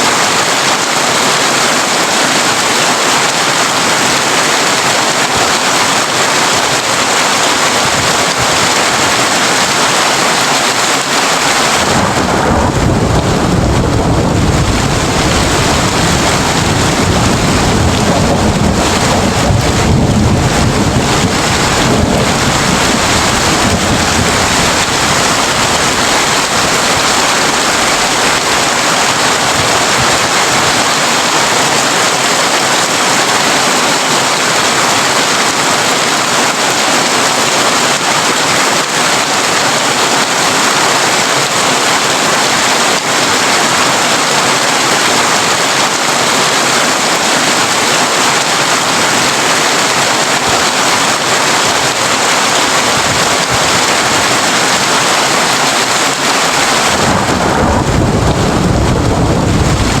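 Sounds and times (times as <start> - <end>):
heavy rain on a tin roof: 0.0 - 60.0.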